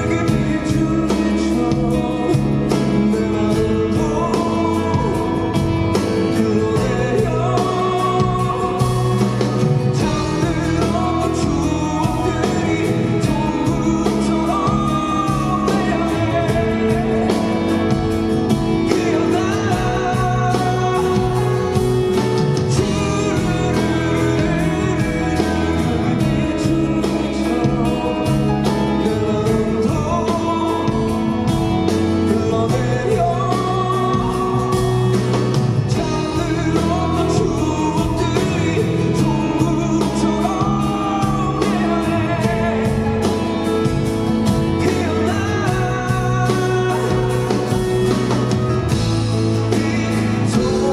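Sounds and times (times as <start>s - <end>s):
acoustic guitar: 0.0s - 50.9s
man singing: 0.0s - 50.9s.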